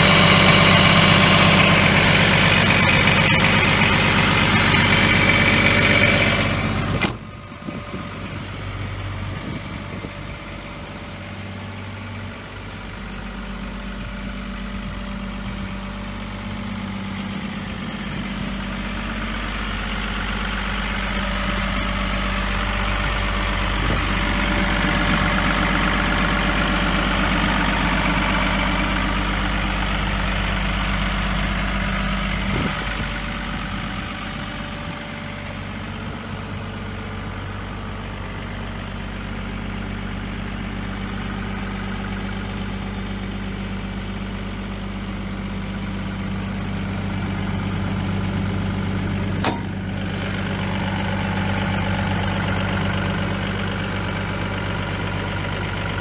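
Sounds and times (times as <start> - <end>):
excavator diesel engine idling: 0.0 - 56.0.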